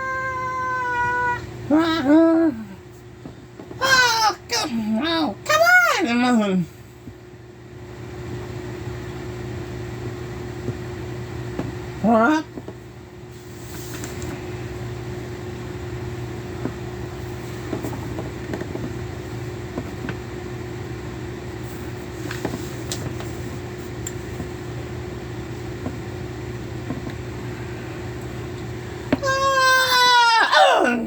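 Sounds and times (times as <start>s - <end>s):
mechanical hum with hiss: 0.0s - 31.0s.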